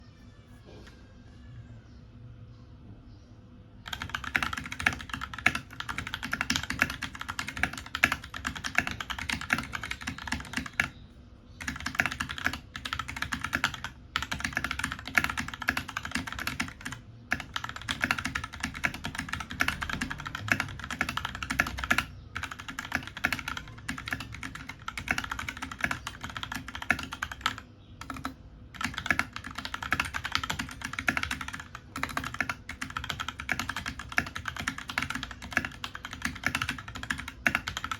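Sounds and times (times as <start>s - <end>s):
fast typing on computer keyboard: 3.8s - 11.0s, 11.6s - 37.9s.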